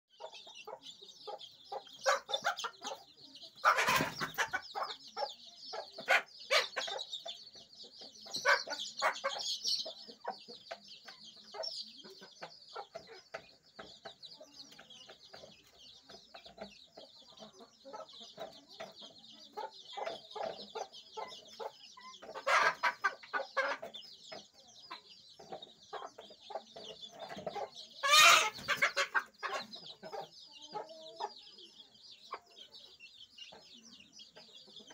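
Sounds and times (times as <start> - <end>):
chicks peeping: 0.1 - 34.9
hen clucking: 0.1 - 34.9.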